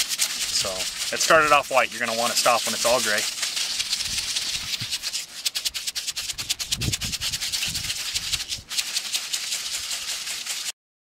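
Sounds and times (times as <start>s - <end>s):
powder rattling in shaken container: 0.0s - 10.8s.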